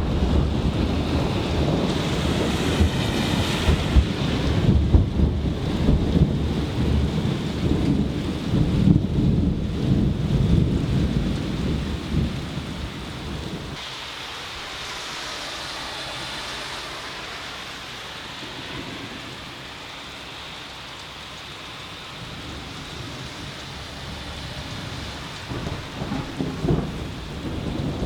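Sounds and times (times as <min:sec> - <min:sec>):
steady rain: 0:00.0 - 0:28.0
thunder rumbling: 0:00.0 - 0:28.0.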